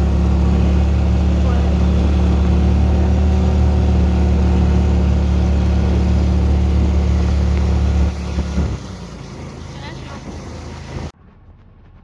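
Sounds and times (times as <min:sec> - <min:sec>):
engine humming: 0:00.0 - 0:11.2.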